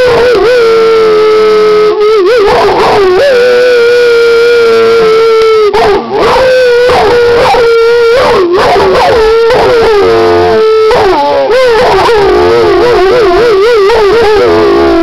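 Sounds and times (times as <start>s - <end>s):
dog howling: 0.0s - 15.0s
person howling: 0.0s - 15.0s.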